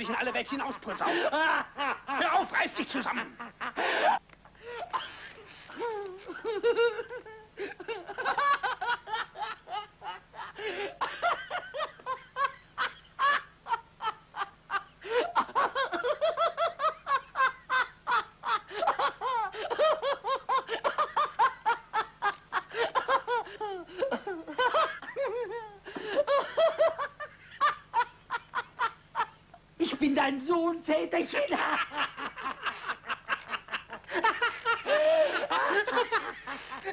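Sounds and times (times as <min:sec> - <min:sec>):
men laughing: 0:00.0 - 0:29.7, 0:31.3 - 0:36.9.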